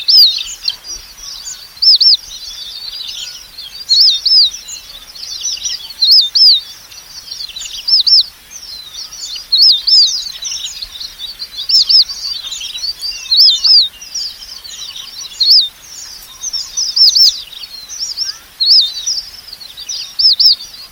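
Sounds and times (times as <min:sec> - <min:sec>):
high thin bird calls: 0:00.0 - 0:20.9
twittering chirps: 0:00.0 - 0:20.9.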